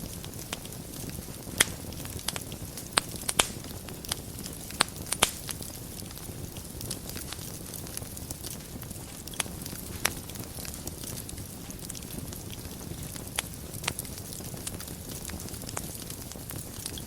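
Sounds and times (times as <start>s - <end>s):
fire rumble and hiss: 0.0s - 17.0s
wood fire crackling and popping: 0.0s - 17.0s.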